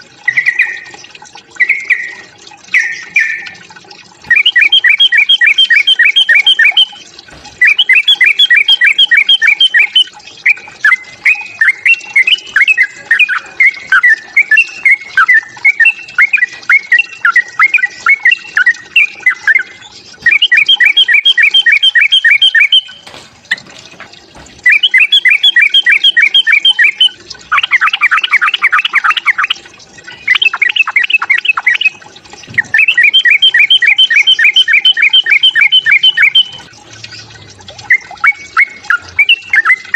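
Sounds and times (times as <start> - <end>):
bird calls of rapid repeated notes: 0.0 - 3.6, 4.2 - 23.6, 24.6 - 39.9.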